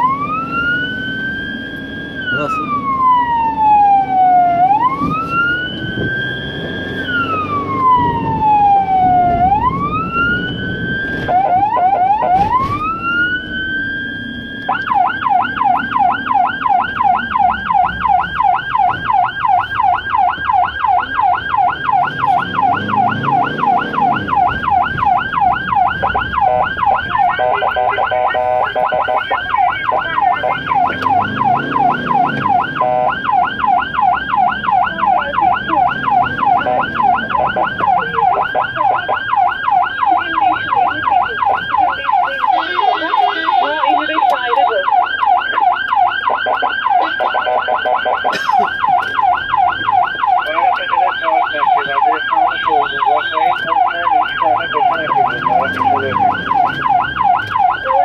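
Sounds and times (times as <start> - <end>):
ambulance siren: 0.0 - 58.0
pulsing stepped siren tone: 0.0 - 58.0.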